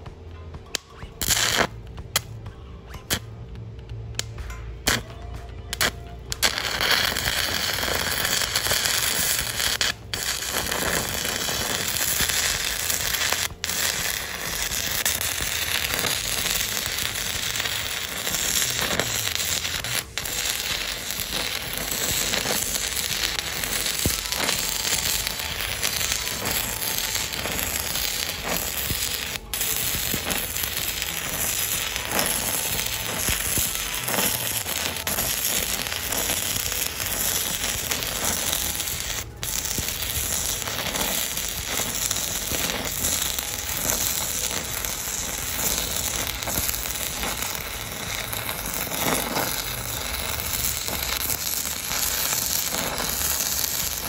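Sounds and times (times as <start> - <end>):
welding arc crackling: 0.7 - 54.0.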